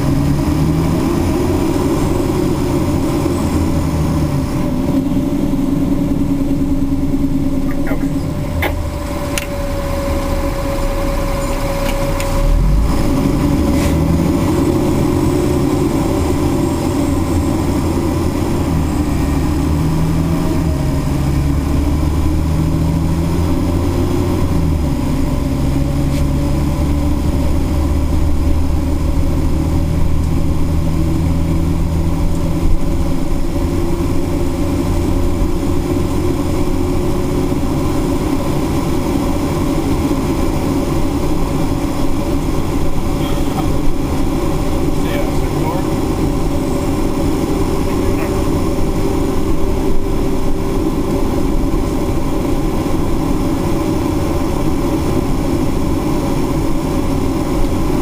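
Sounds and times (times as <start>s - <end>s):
fire engine drone: 0.0s - 58.0s
road noise: 0.0s - 58.0s.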